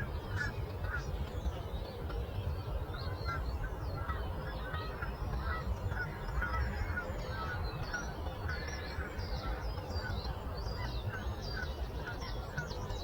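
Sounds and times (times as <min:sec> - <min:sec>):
low rumble of breeze: 0:00.0 - 0:13.0.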